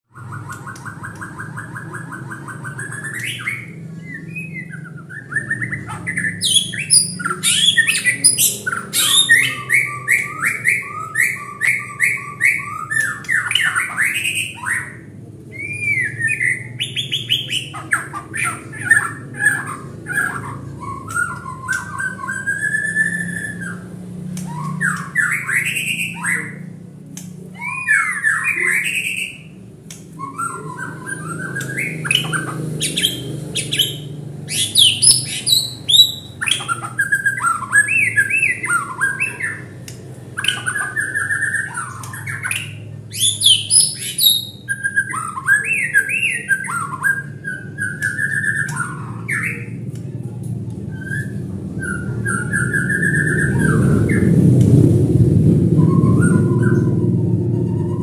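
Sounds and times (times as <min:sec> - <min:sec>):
songbird singing varied song: 0:00.1 - 0:50.1.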